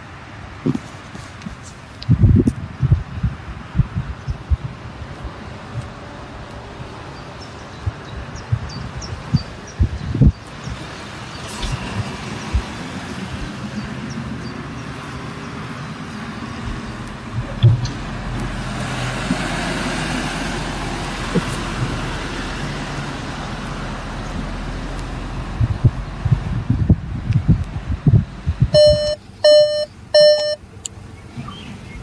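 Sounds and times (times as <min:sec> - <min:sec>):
motor vehicle hum: 0:00.0 - 0:32.0.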